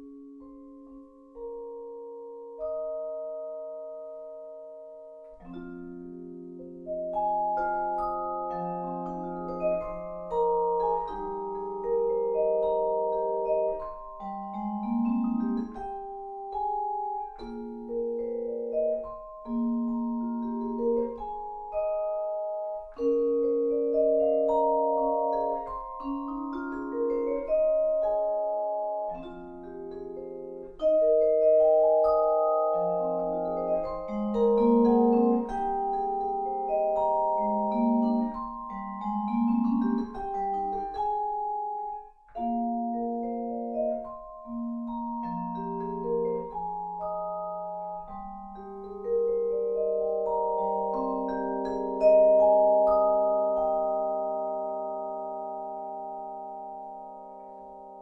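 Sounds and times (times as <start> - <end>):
vibraphone playing: 5.2 - 58.0.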